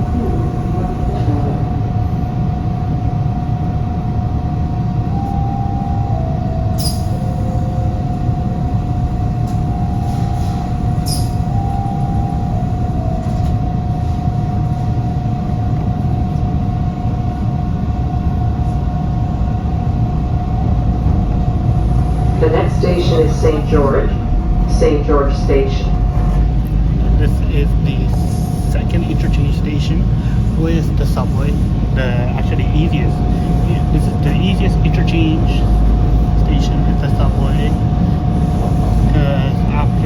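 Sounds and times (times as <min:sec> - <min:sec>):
subway train rumble and whine: 0:00.0 - 0:40.0.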